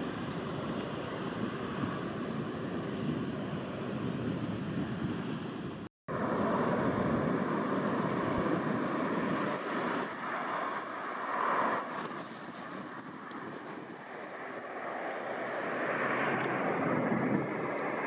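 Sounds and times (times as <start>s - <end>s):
jet engines roaring: 0.0s - 18.0s
wind noise on microphone: 0.0s - 18.0s.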